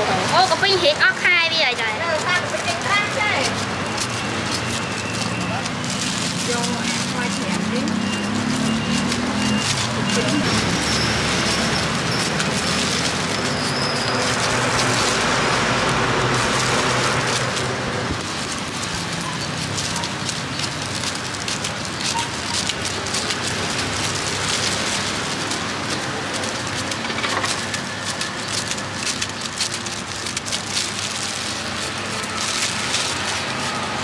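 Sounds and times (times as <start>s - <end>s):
plastic bag crinkling: 0.0s - 34.0s.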